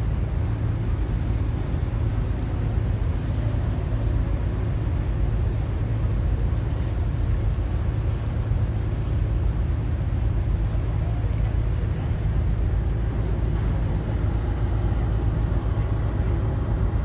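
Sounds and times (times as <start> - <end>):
low ship engine rumble: 0.0 - 17.0.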